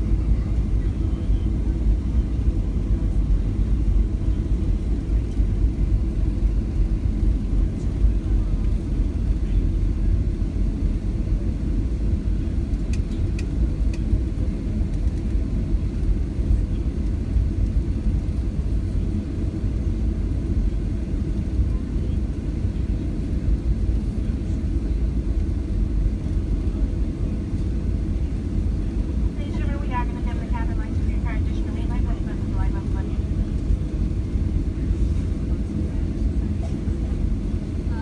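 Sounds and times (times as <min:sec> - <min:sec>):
airplane engines idling: 0:00.0 - 0:38.0.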